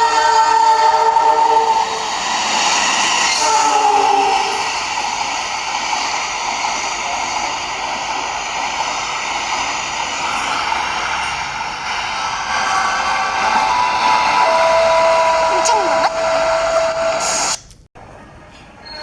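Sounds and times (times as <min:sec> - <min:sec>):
train rushing past: 0:00.0 - 0:19.0.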